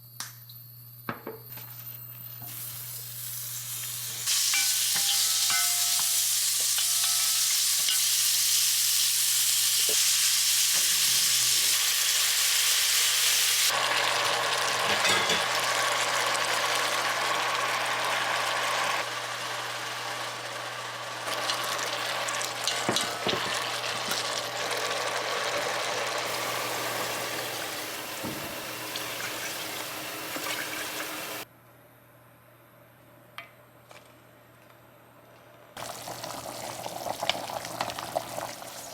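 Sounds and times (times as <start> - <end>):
food sizzling in a frying pan: 2.4 - 31.4, 35.8 - 38.9.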